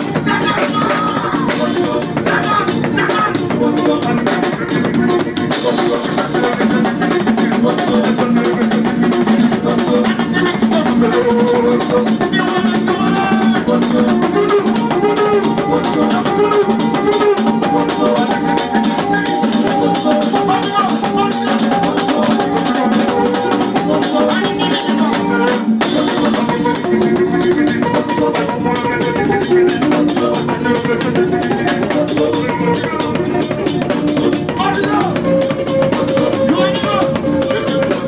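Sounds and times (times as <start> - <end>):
drum kit beat: 0.0 - 38.0
electric keyboard: 0.0 - 38.0.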